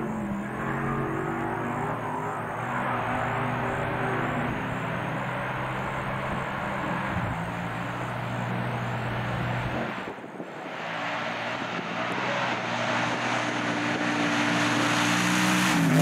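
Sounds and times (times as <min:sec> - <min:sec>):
race truck engine running hard: 0:00.0 - 0:16.0.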